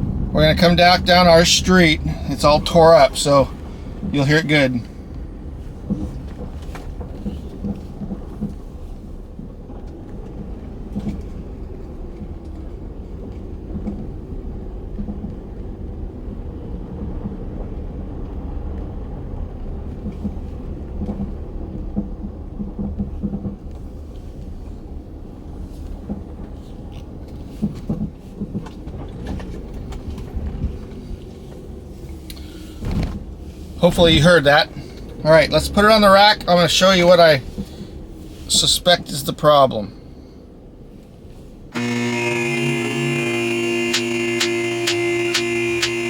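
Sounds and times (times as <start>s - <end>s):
road rumble: 0.0s - 46.0s.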